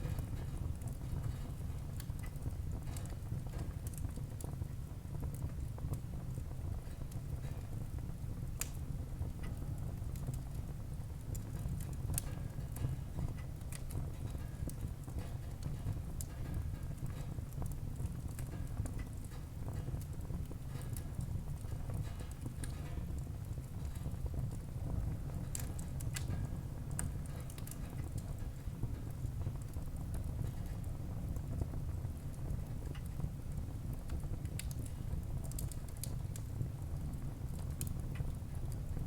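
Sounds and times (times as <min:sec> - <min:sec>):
low rumble of flames: 0:00.0 - 0:39.0
wood crackling and popping: 0:00.0 - 0:39.0.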